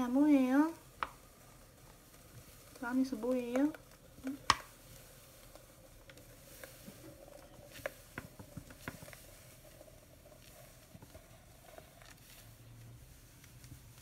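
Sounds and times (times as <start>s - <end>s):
light taps and soft rustles: 0.9s - 14.0s.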